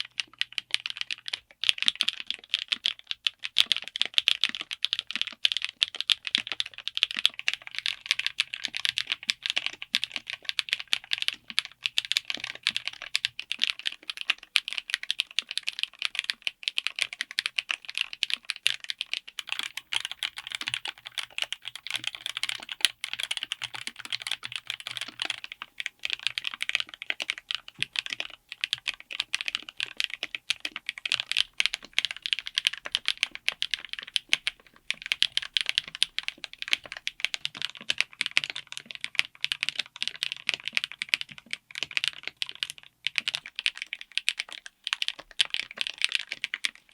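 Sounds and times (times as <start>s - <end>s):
fast typing on mechanical keyboard: 0.0s - 46.9s.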